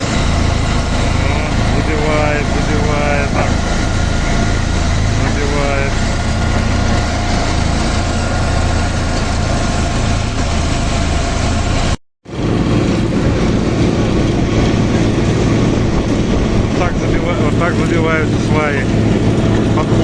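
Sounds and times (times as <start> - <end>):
vibratory pile driver drone: 0.0 - 20.0.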